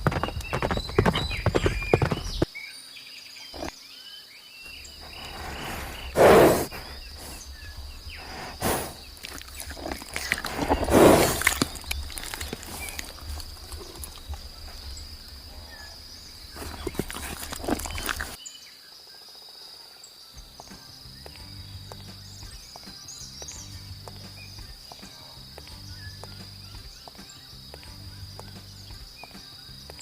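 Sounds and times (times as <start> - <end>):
faint chirps: 0.0 - 30.0.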